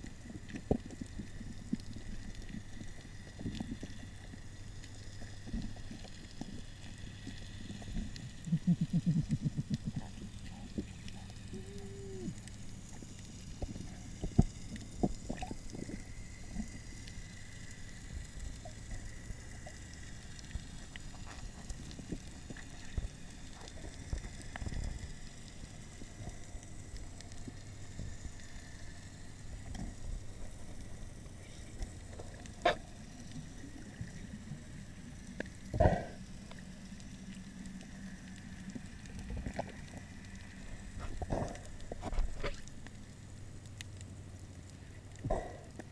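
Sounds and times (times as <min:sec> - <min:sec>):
muffled underwater hum: 0:00.0 - 0:45.9.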